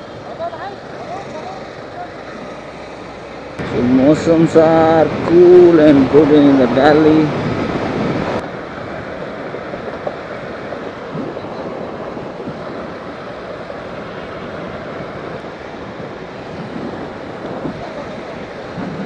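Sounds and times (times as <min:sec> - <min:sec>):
motorcycle hum: 0:00.0 - 0:19.0
wind rushing over microphone: 0:03.6 - 0:19.0.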